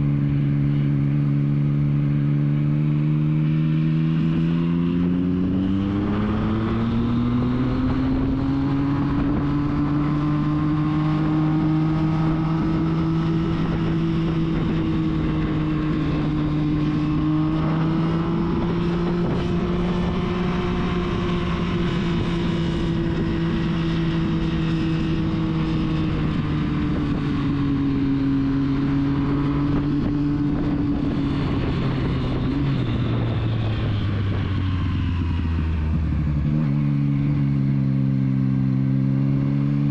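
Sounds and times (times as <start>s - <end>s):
wind rush on microphone: 2.2s - 37.8s.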